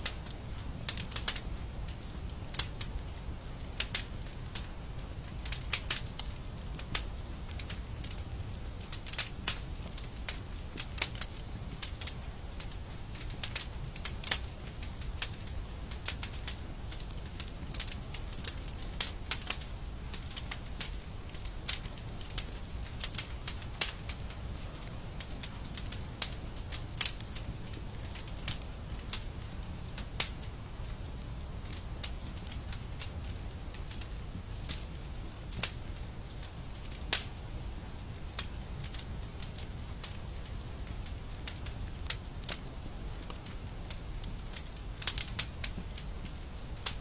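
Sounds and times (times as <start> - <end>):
wood fire crackling and popping: 0.0 - 47.0.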